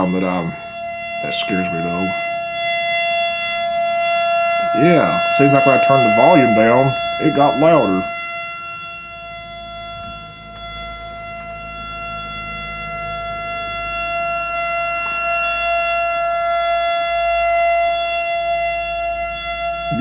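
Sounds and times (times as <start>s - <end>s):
warning siren steady tone: 0.0s - 20.0s.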